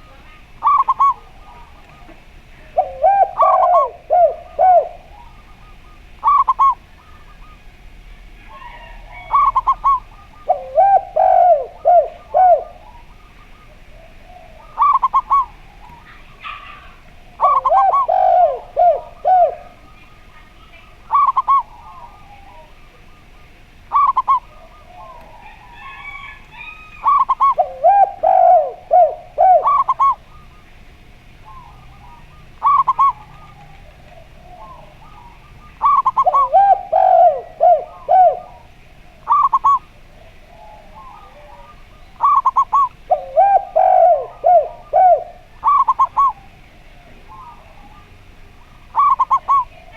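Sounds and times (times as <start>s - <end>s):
doves cooing: 0.0s - 49.9s
small birds chirping: 0.0s - 49.9s.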